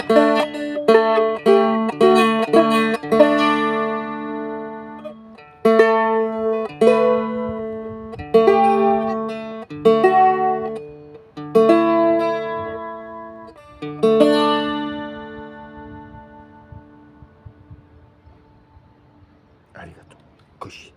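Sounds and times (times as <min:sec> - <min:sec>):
guitar strumming slow chords: 0:00.0 - 0:19.4.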